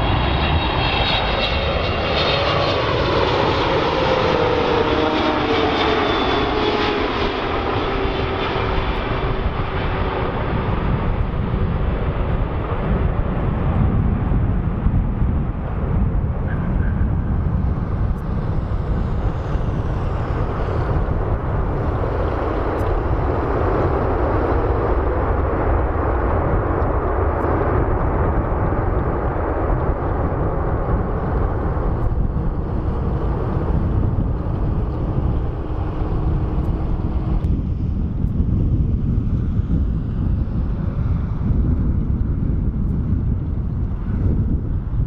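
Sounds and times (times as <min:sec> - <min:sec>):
jet engines reverse thrust roar: 0:00.0 - 0:45.0.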